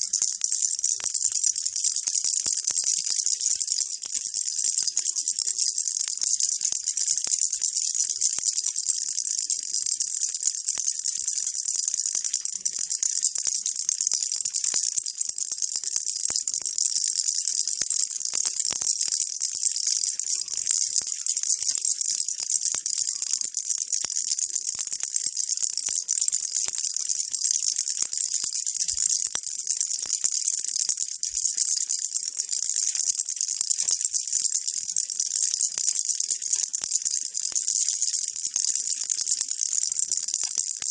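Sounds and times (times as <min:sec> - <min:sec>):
baby rattle shaking: 0:00.0 - 0:40.9.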